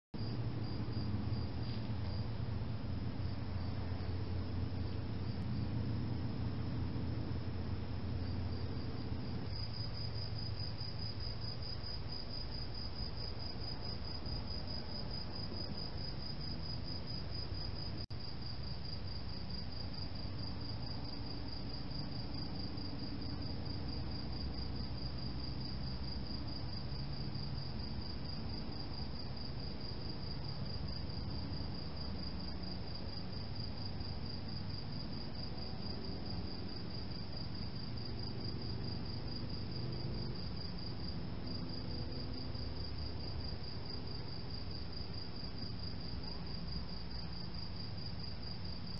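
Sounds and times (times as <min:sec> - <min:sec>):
crickets chirping: 0:00.2 - 0:48.9
low steady hiss: 0:00.2 - 0:48.9.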